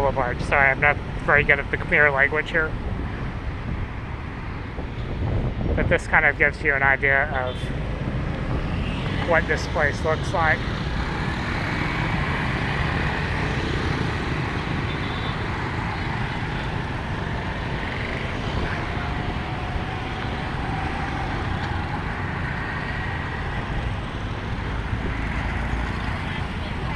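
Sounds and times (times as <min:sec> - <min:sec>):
road traffic noise: 0:00.0 - 0:26.9.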